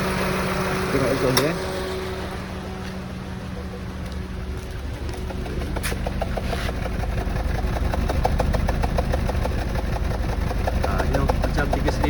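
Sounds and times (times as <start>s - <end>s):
car engine idling rough: 0.0s - 12.0s.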